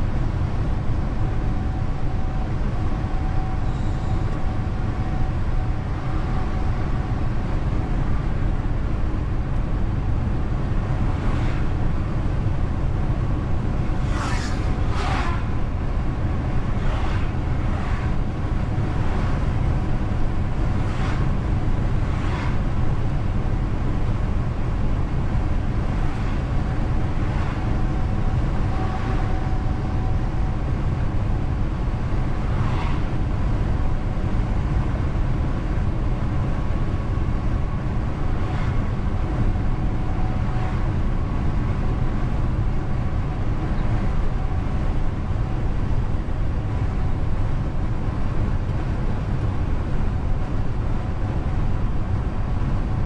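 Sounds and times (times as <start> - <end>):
truck engine and tyres rumbling: 0.0 - 53.0.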